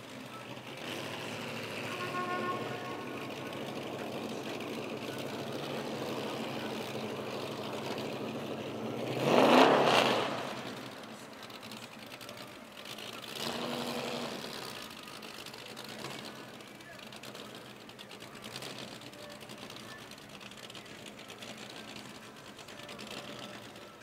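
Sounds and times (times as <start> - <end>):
second quieter engine: 0.0 - 24.0
engine revving: 0.5 - 19.8.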